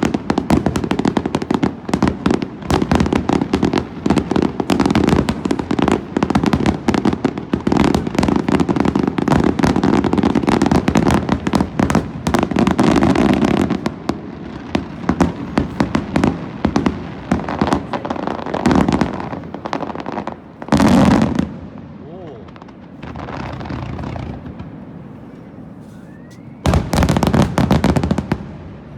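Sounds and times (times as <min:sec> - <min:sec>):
fireworks bangs and crackling: 0:00.0 - 0:28.9.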